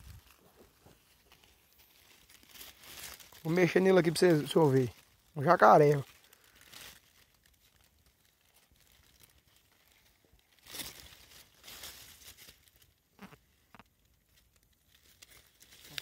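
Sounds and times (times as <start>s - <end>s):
faint rustling: 0.0s - 16.0s.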